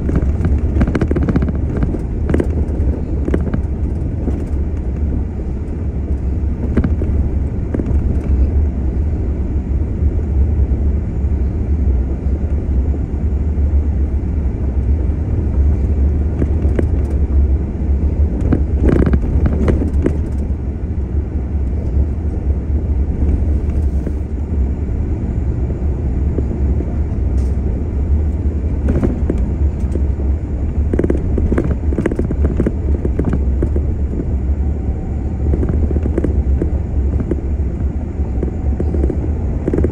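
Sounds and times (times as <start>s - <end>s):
vehicle driving on gravel: 0.0s - 39.9s.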